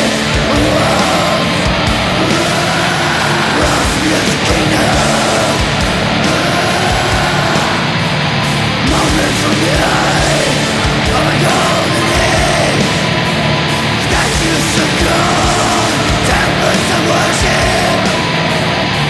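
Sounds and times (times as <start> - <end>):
distorted guitars: 0.0 - 19.0
rapid pounding drums: 0.0 - 19.0.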